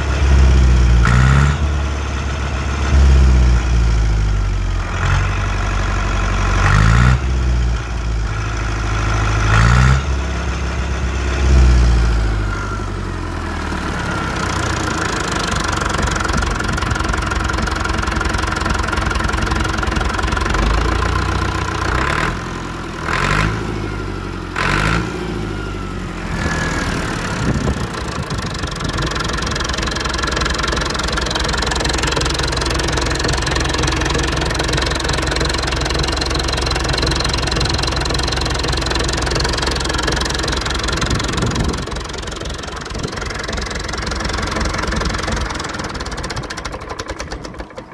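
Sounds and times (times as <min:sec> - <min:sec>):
diesel engine revving and idling: 0:00.0 - 0:47.9.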